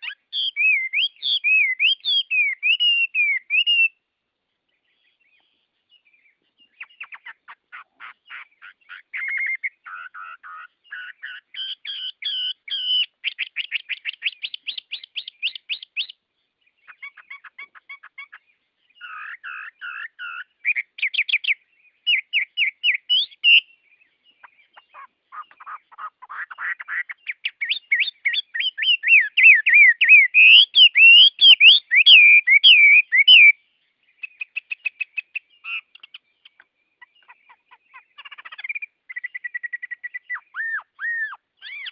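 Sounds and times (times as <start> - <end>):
songbirds trilling and whistling: 0.0 - 41.9.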